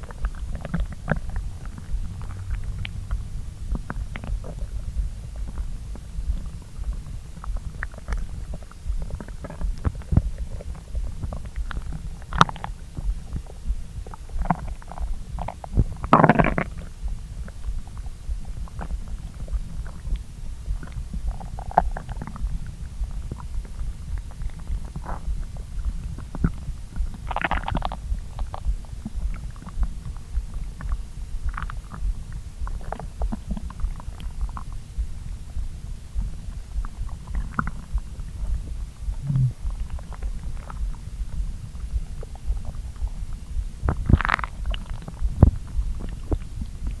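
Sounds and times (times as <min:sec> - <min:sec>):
stomach gurgles and pops: 0:00.0 - 0:47.0
stomach rumbling: 0:00.0 - 0:47.0.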